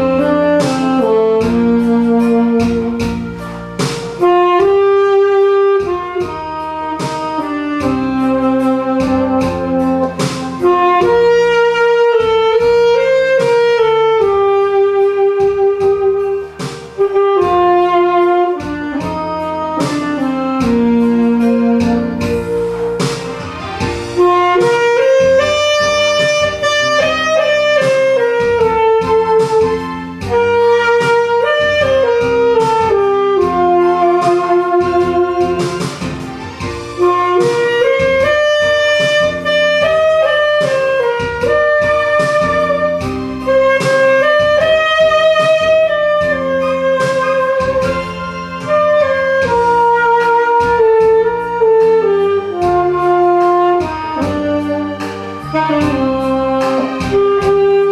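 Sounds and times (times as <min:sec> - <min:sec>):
piano backing track: 0:00.0 - 0:57.9
saxophone melody: 0:00.0 - 0:57.9.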